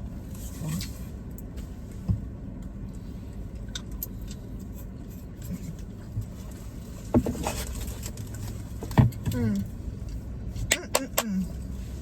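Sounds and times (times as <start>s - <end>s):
low rumble inside car cabin: 0.0s - 12.0s.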